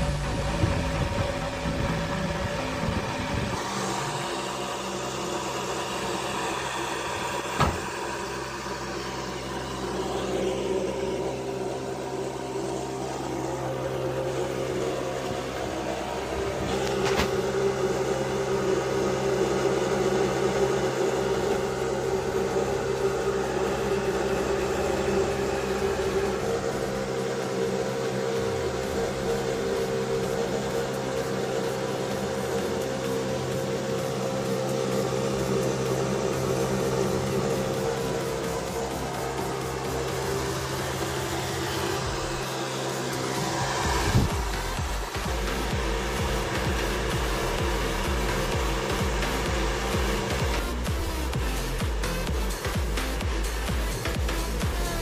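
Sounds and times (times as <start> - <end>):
small fan humming: 0.0 - 55.0.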